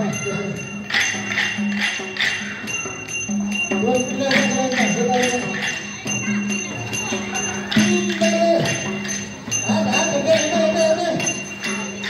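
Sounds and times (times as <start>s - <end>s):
metallic jingling strikes: 0.0s - 12.0s
wavering melody: 0.0s - 12.0s.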